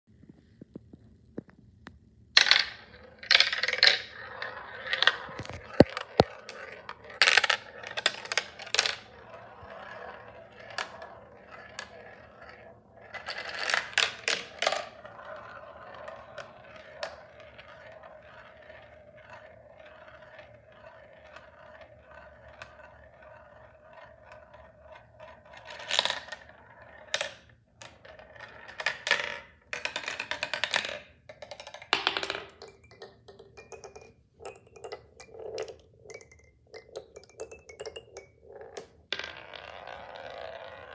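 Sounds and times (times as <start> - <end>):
marble bouncing down nails: 2.4 - 26.5, 27.1 - 40.9
marble clattering through plastic tubes: 2.4 - 40.9
marble spinning in a funnel: 2.4 - 40.9.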